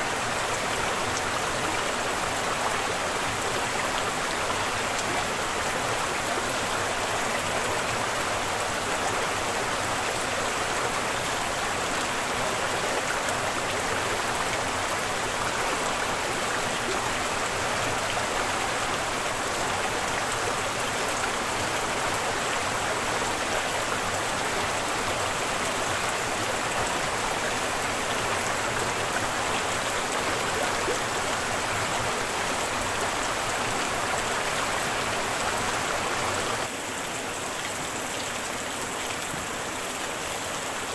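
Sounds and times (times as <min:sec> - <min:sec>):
rain falling on pool water: 0:00.0 - 0:40.9.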